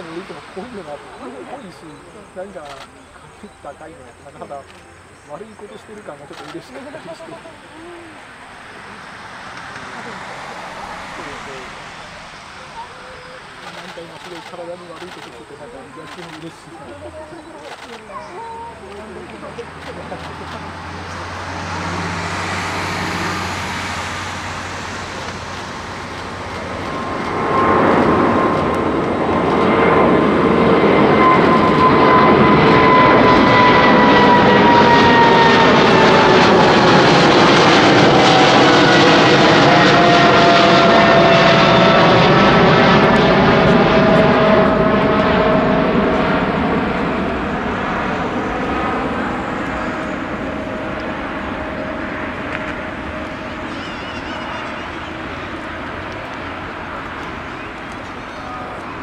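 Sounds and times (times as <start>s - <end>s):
jet engines flying over: 0.0s - 59.0s
whining engine tones: 0.0s - 59.0s.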